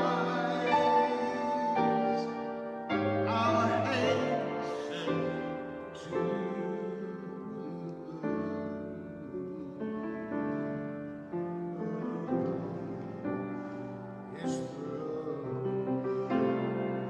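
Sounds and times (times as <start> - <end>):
man singing a hymn: 0.0 - 17.0
piano chords: 0.0 - 17.0.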